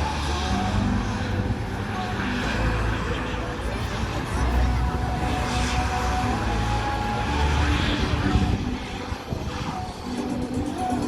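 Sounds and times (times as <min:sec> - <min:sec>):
background music: 0:00.0 - 0:11.0
truck engine running: 0:00.0 - 0:11.0.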